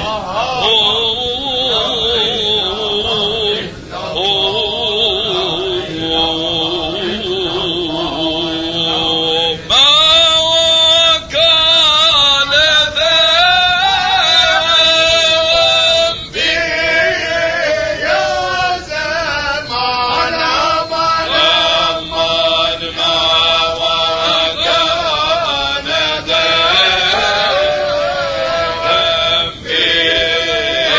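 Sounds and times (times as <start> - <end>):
man chanting: 0.0 - 30.9.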